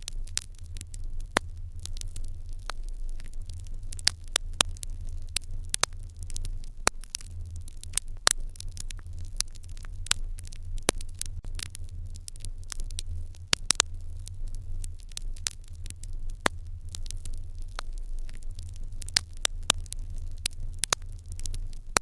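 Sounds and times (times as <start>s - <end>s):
fire pops and snaps: 0.0s - 22.0s
low steady rumble: 0.0s - 22.0s
wood fire crackling: 0.0s - 22.0s.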